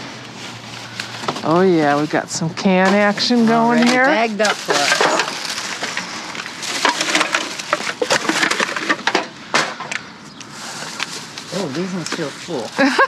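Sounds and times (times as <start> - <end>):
bag of cans crinkling and clattering: 0.4 - 10.0, 10.6 - 13.0.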